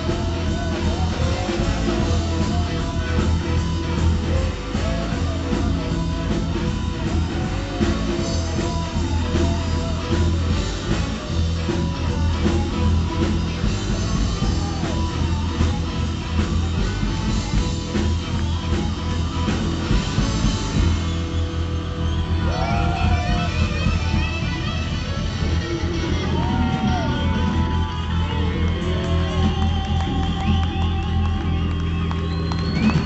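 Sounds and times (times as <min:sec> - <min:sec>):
blues-rock band playing: 0:00.0 - 0:33.0.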